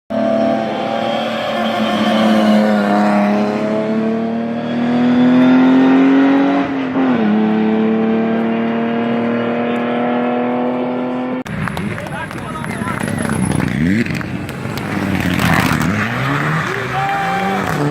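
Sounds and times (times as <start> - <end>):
race car engine accelerating: 0.1 - 11.4, 13.0 - 17.9.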